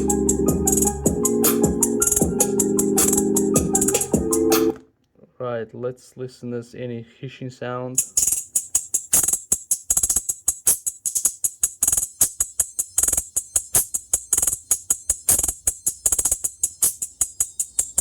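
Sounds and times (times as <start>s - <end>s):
thin treble music ticks: 0.0s - 4.7s, 8.0s - 18.0s.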